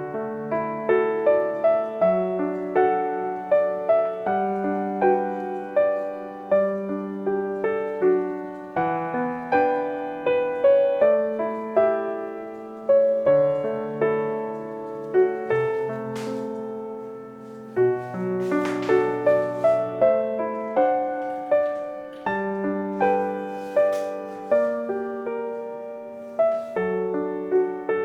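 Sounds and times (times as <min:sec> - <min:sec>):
gentle solo piano melody: 0:00.0 - 0:28.0.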